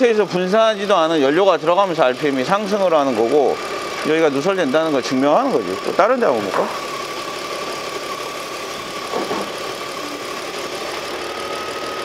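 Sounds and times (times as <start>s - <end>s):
car engine idling: 0.0s - 12.0s
engine whine: 0.0s - 12.0s.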